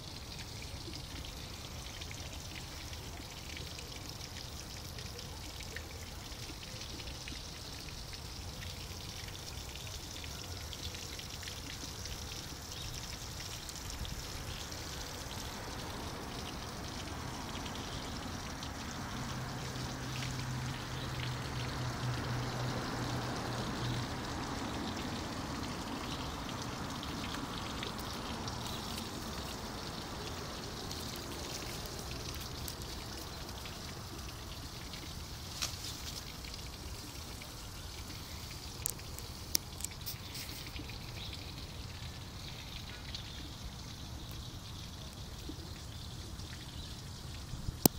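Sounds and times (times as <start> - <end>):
fountain water pouring and trickling: 0.0 - 47.9.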